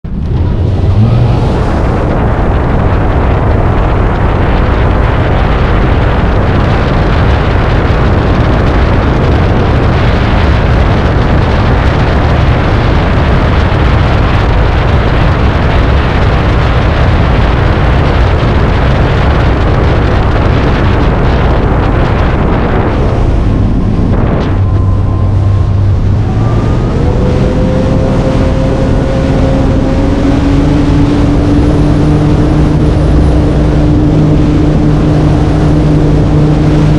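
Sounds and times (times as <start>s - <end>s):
boat engine running flat out: 0.0s - 36.9s
wind and water rush: 0.1s - 36.9s.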